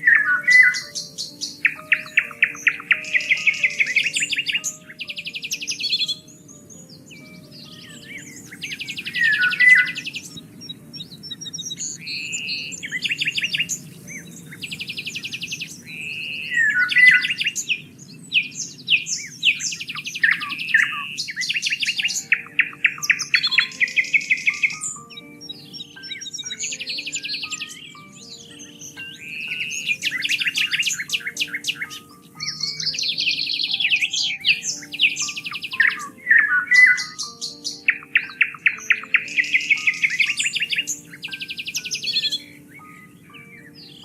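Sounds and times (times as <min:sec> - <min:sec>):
songbirds singing and calling: 0:00.0 - 0:44.0.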